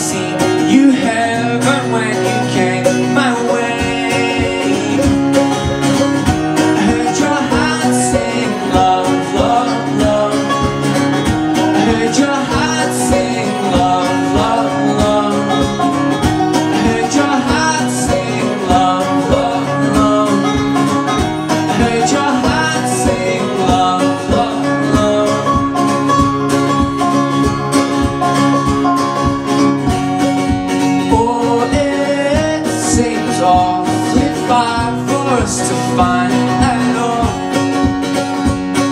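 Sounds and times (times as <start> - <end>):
man singing: 0.0 - 26.3, 30.5 - 37.9
banjo: 0.0 - 38.9
mandolin: 0.0 - 38.9
strummed acoustic guitar: 0.0 - 38.9.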